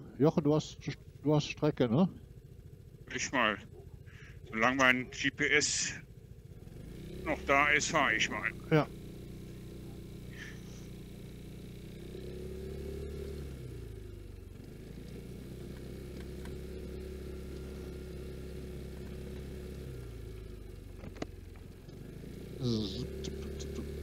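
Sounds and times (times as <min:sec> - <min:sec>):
muffled scooter engine running: 0:00.0 - 0:24.0.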